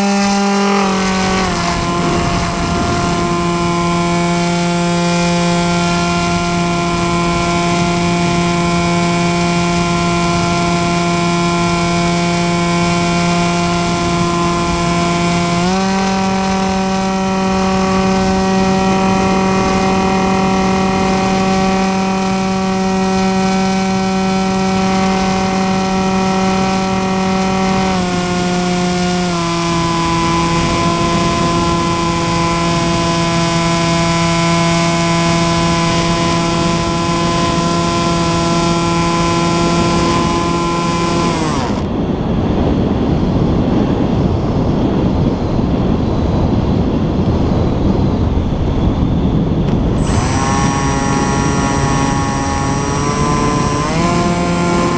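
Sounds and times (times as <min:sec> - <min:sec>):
electric motor propeller buzzing: 0:00.0 - 0:42.7, 0:49.4 - 0:54.9.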